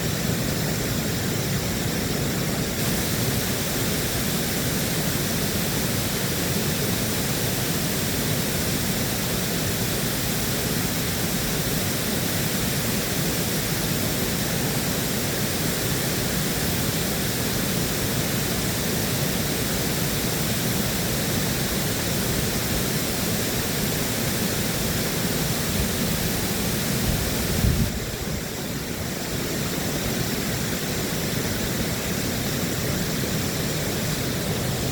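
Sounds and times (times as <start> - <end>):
water rushing through dam: 0.0 - 34.9.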